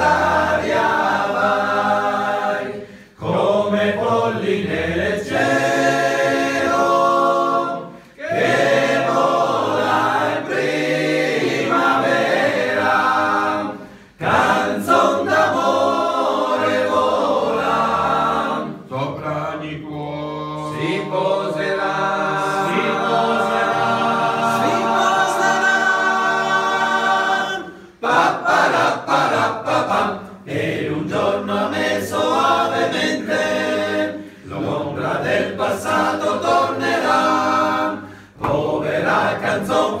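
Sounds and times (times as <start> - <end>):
men singing a cappella: 0.0 - 40.0.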